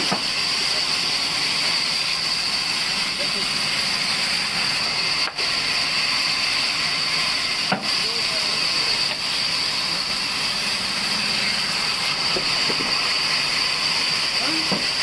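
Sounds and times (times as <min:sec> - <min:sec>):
band saw cutting log: 0:00.0 - 0:15.0.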